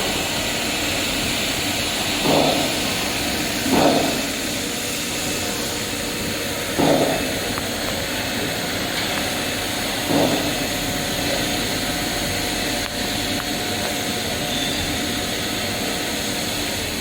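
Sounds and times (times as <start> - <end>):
water coolant flowing: 0.0 - 17.0
wire saw running with rushing hiss: 0.0 - 17.0.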